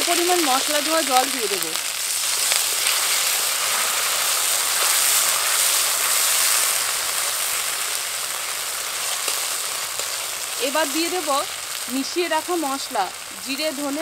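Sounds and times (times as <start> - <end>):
spice paste sizzling in oil: 0.0 - 14.0.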